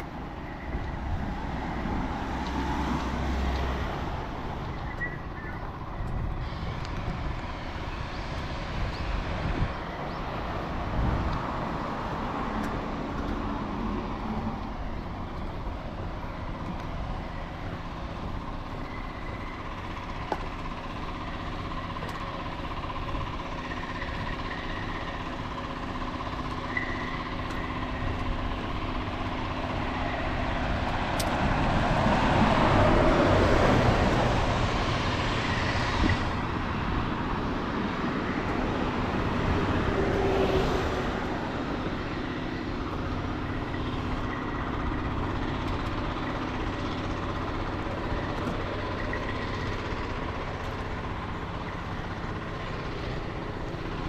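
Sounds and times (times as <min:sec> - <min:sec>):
road traffic rumble and tyre hiss: 0:00.0 - 0:54.0.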